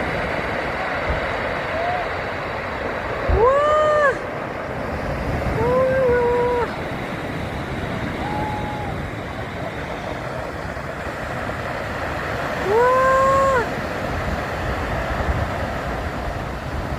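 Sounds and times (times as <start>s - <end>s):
sea surf breaking: 0.0s - 16.9s.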